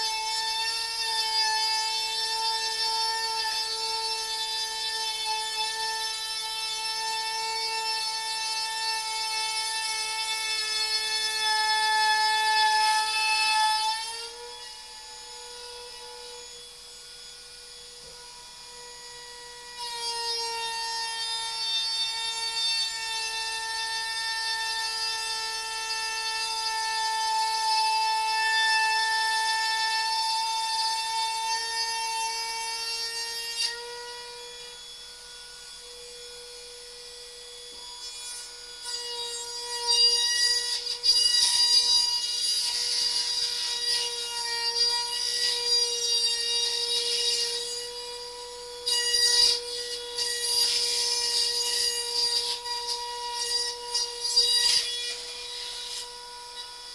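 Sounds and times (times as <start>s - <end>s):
router motor whine: 0.0s - 56.9s.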